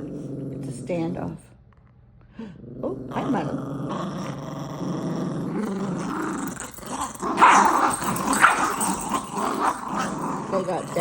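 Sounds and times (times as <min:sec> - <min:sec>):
puppies growling: 0:00.0 - 0:01.4, 0:02.3 - 0:11.0.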